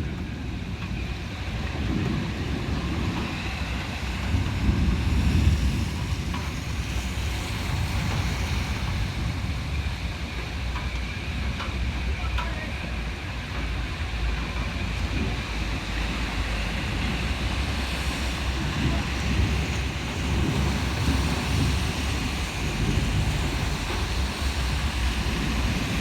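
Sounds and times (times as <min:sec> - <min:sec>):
wind gusting against microphone: 0:00.0 - 0:26.0
heavy rain hiss: 0:00.3 - 0:26.0.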